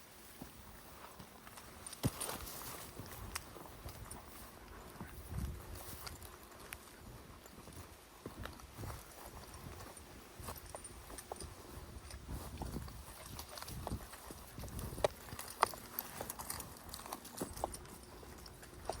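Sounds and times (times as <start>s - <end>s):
footsteps on hard surface: 0.4s - 19.0s.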